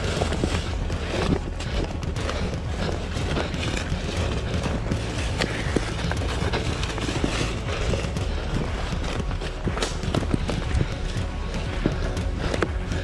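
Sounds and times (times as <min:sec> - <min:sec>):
footsteps crunching dry leaves: 0:00.0 - 0:13.0
low microphone rumble: 0:00.0 - 0:13.0.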